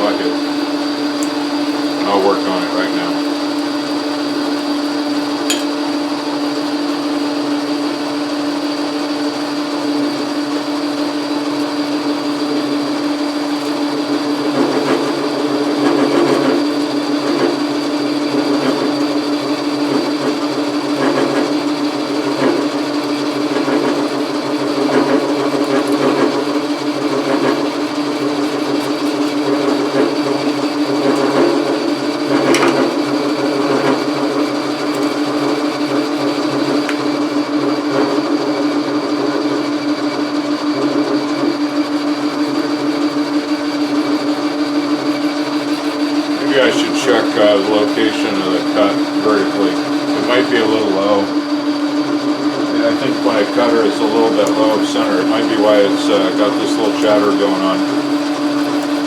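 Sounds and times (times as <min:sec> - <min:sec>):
lathe tool cutting metal: 0:00.0 - 0:59.0
metal lathe motor humming: 0:00.0 - 0:59.0.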